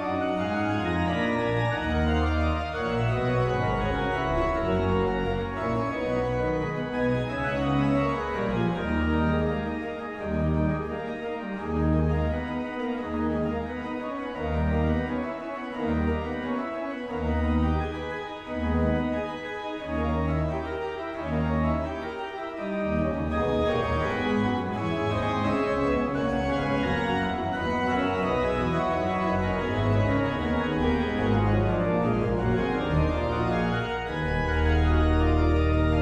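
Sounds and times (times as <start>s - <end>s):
sustained keyboard chords: 0.0s - 36.0s.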